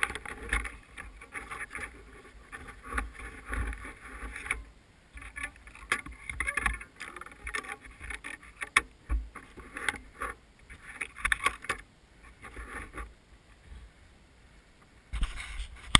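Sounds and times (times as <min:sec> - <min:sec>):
bike rattling over gravel: 0:00.0 - 0:13.1.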